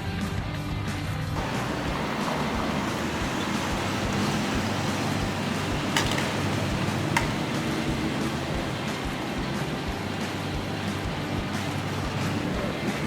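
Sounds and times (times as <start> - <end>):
street traffic: 1.2 - 13.0.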